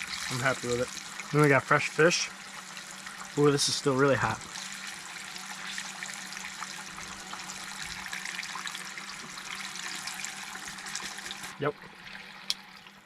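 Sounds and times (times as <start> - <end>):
frying oil sizzling: 0.0 - 13.0.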